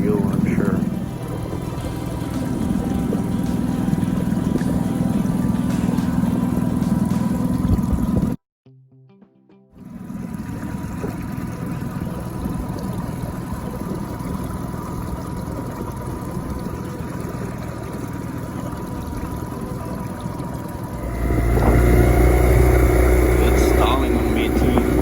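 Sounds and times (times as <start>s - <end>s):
outboard motor running: 0.0s - 8.4s, 9.8s - 25.0s.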